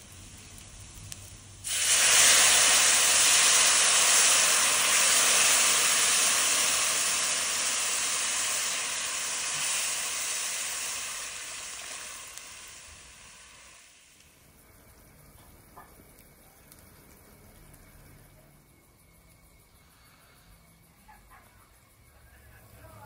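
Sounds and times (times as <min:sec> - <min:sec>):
food sizzling in a wok: 0:00.0 - 0:20.4.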